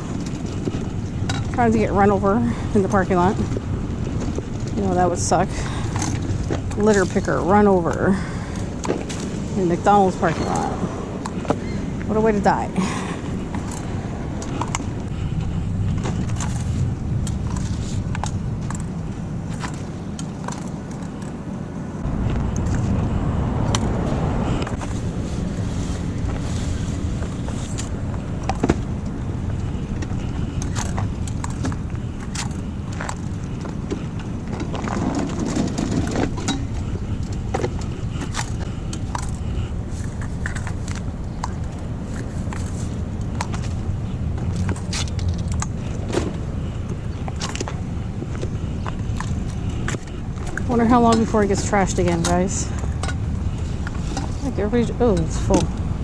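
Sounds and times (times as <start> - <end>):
vehicles rumbling: 0.0 - 56.0.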